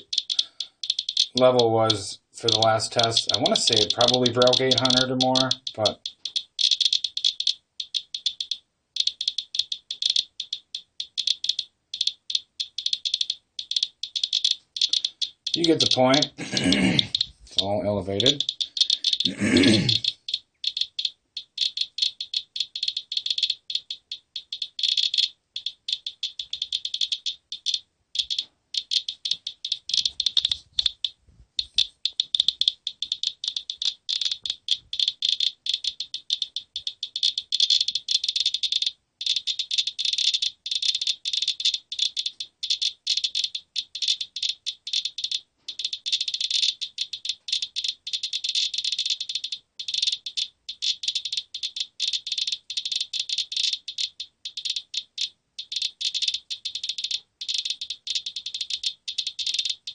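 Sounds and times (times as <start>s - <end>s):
geiger counter clicking rapidly: 0.0s - 59.9s.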